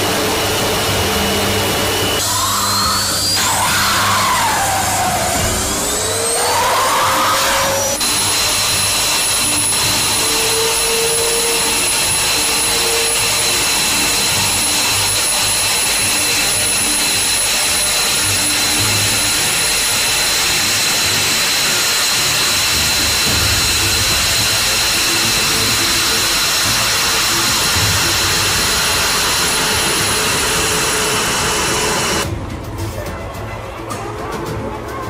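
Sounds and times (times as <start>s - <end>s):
jet engines whining: 0.0s - 32.3s.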